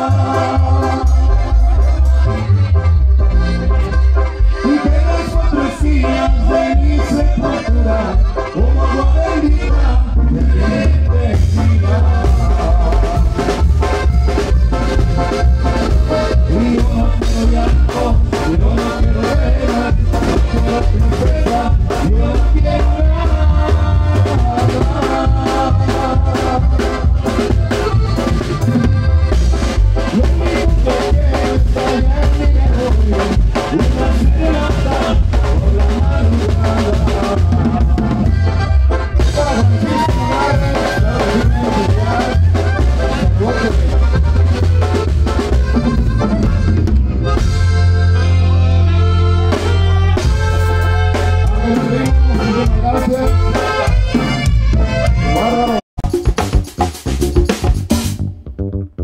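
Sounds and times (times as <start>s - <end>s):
brass band playing: 0.0s - 58.2s
bass drum and cymbals beat: 0.0s - 58.6s.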